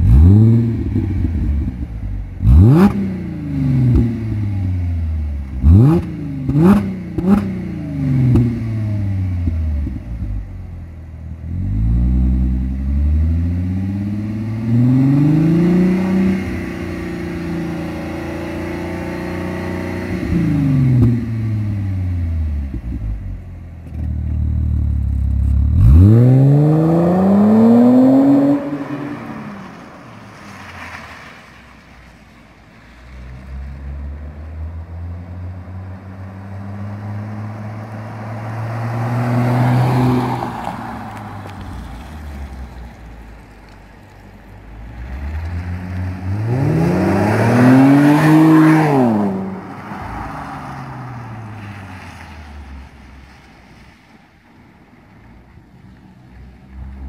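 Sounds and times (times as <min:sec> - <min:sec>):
car engine revving: 0:00.0 - 0:31.8, 0:32.5 - 0:53.1.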